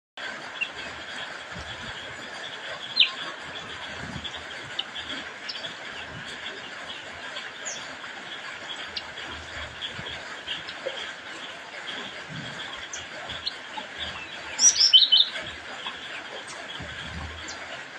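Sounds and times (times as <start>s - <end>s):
songbird chirping: 0.6s - 17.8s.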